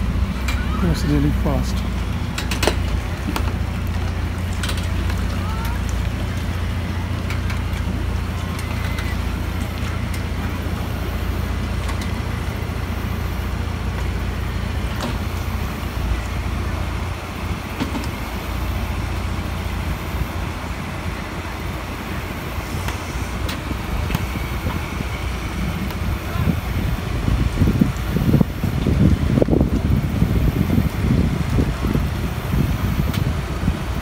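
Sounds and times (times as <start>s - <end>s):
truck engine low rumble: 0.0s - 34.0s.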